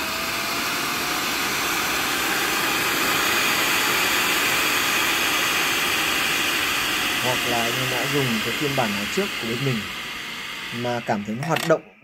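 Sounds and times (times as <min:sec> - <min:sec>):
blower fan rushing air: 0:00.0 - 0:12.0.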